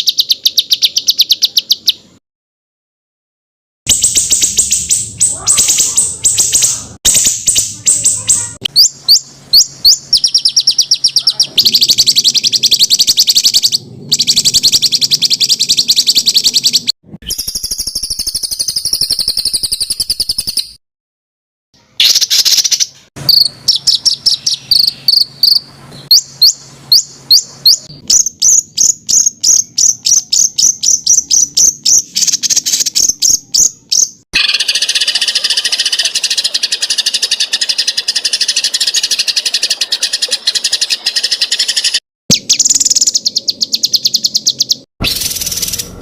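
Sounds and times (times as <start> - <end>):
songbirds singing rapid trills: 0.0 - 2.2, 3.9 - 20.8, 22.0 - 46.0.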